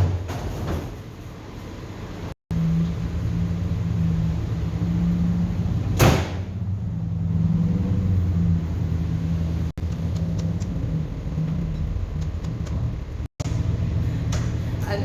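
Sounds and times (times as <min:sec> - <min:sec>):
truck engine running: 0:02.1 - 0:15.0.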